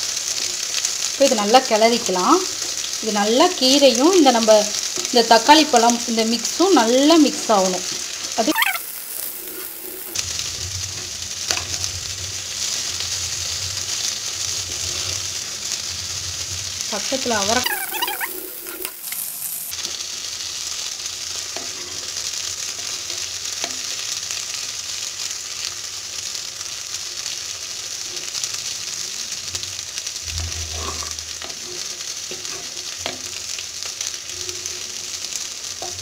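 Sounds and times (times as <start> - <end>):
vegetables sizzling in oil: 0.0 - 36.0.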